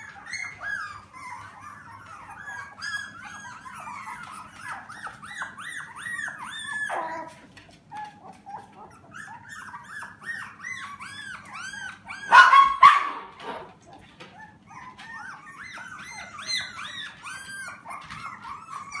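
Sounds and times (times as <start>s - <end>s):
puppies whining and yipping: 0.0s - 19.0s.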